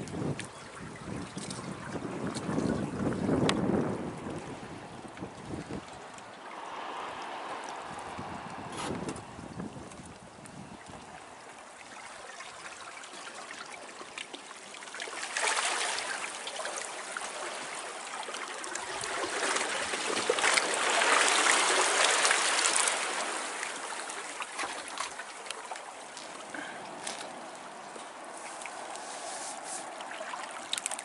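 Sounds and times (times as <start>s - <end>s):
small waves washing among rocks: 1.4s - 10.4s, 11.1s - 31.0s.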